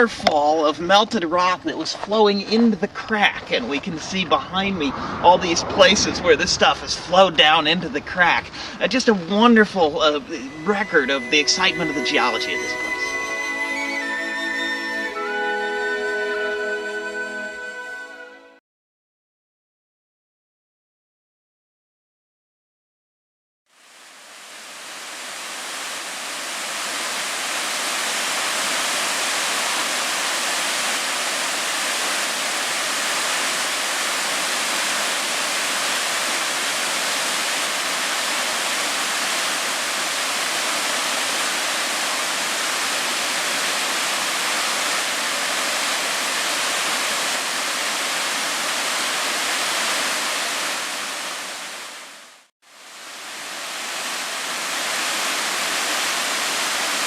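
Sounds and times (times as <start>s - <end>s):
rushing water: 0.0s - 16.6s, 23.7s - 57.0s.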